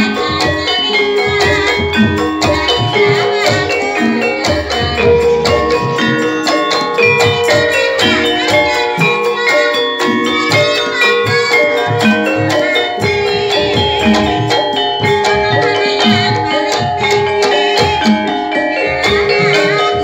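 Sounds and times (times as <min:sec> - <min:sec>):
bamboo xylophones playing: 0:00.0 - 0:20.0.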